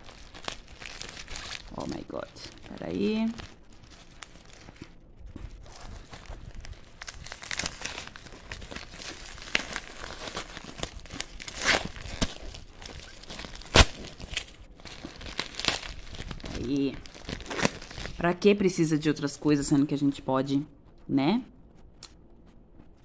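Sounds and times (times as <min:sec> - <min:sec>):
plastic mailer bag crinkling: 0:00.0 - 0:19.3.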